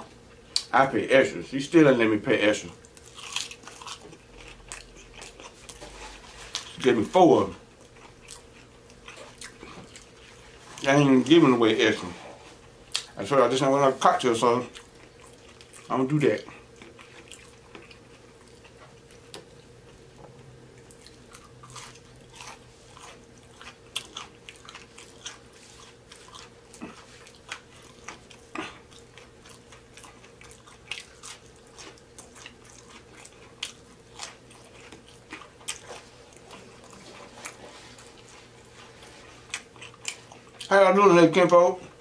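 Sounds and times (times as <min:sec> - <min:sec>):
faint steady hum: 0:00.0 - 0:42.0
chewing crunchy fried food: 0:02.3 - 0:20.1, 0:20.7 - 0:42.0.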